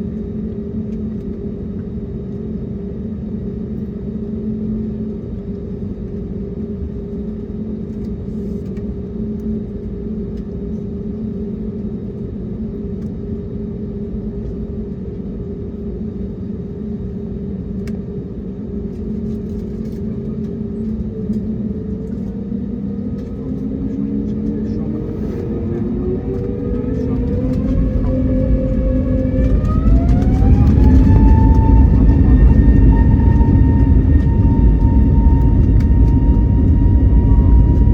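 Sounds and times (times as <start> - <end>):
airplane cabin engine hum: 0.0 - 37.9.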